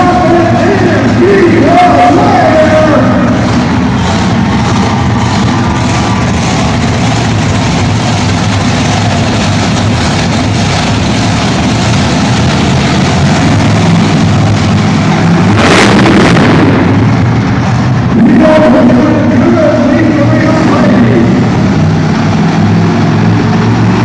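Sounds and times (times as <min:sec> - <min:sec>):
rushing burst: 0:00.0 - 0:24.0
truck engine running loud: 0:00.0 - 0:24.0.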